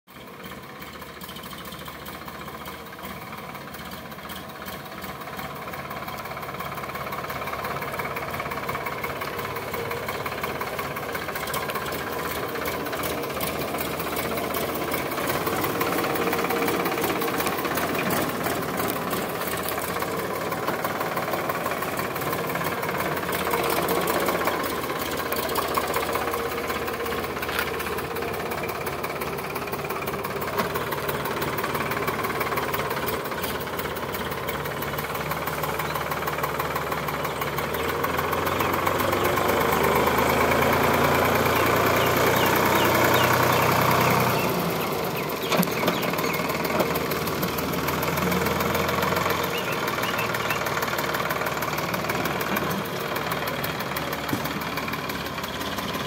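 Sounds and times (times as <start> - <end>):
tractor diesel engine running: 0.1 - 56.0.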